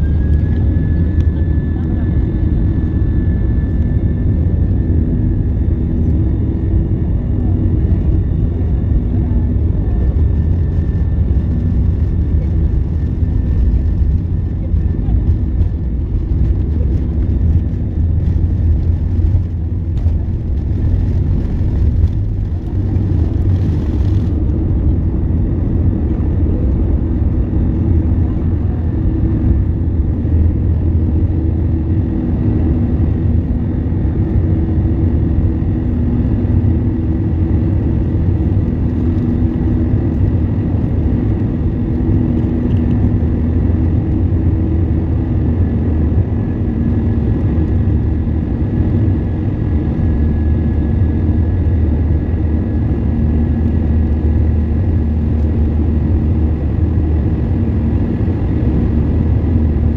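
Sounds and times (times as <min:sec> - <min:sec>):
jet engine rumble in cabin: 0:00.0 - 0:59.9.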